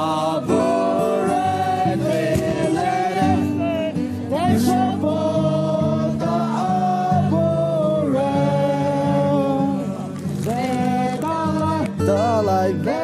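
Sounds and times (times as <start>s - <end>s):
song with singing: 0.0s - 13.0s.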